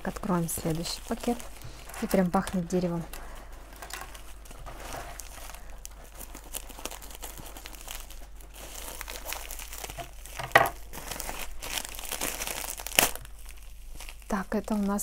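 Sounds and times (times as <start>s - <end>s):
plastic bag crinkling: 0.0s - 15.0s
plastic ripping: 0.0s - 15.0s.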